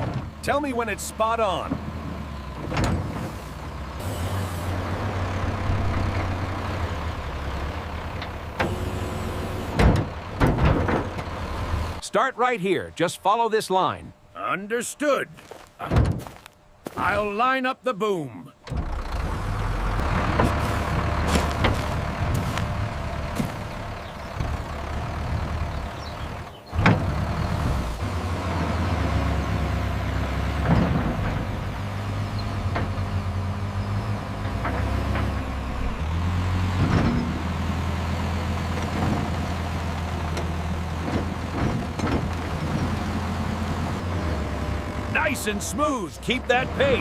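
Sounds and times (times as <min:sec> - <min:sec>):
excavator engine running: 0:00.0 - 0:12.0, 0:18.6 - 0:47.0.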